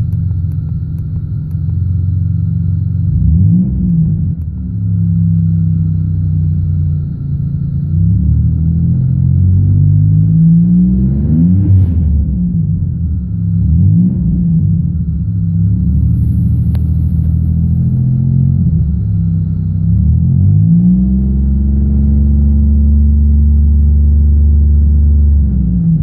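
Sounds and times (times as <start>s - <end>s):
car engine running unevenly: 0.0s - 10.4s, 11.6s - 20.7s, 21.4s - 26.0s.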